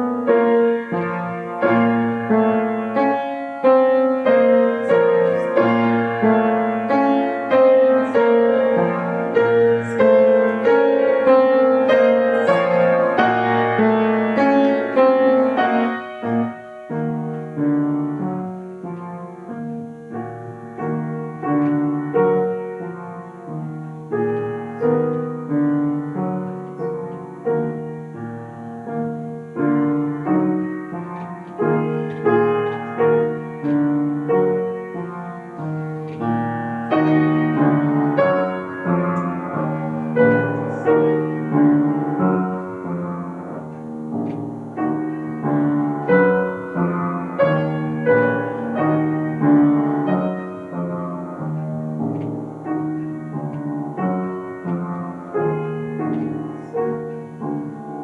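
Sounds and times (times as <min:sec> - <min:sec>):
solo piano classical piece: 0:00.0 - 0:58.0.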